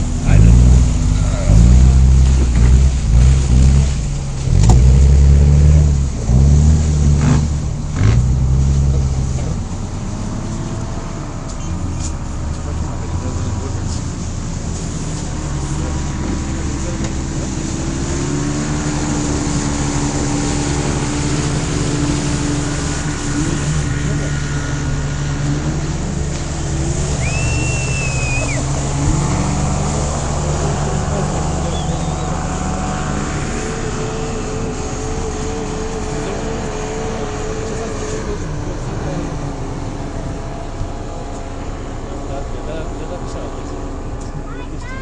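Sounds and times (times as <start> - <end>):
off-road vehicle engine running: 0.0 - 45.0.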